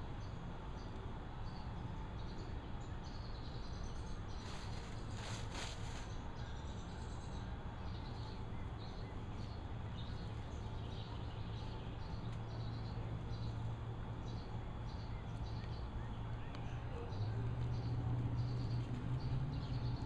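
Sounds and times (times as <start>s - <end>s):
steady low hum: 0.0s - 20.0s
birds chirping: 0.1s - 20.0s.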